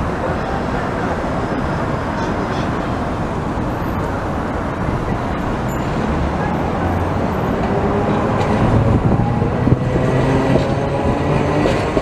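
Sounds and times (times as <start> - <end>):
cars driving past: 0.0 - 12.0
city street traffic: 0.0 - 12.0.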